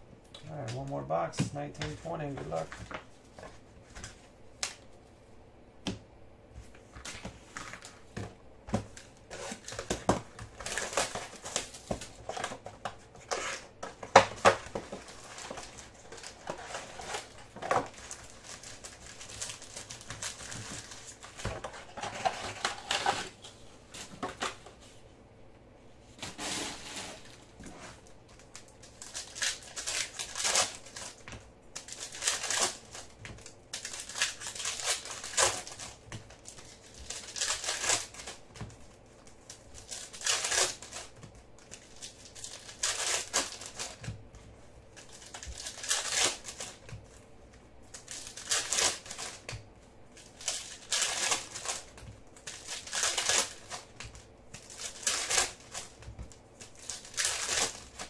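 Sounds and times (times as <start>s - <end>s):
foil wrappers crinkling: 0.6s - 4.8s, 8.9s - 24.8s, 26.2s - 58.0s.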